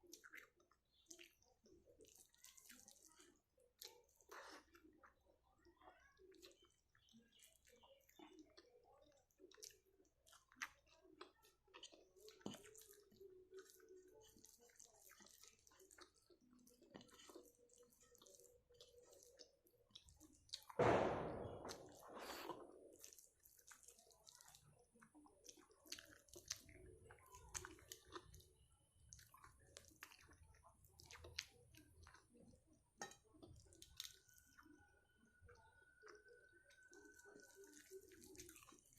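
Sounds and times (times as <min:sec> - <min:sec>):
person chewing food: 0:00.0 - 0:05.2, 0:06.3 - 0:20.8, 0:21.5 - 0:34.8, 0:35.4 - 0:38.9.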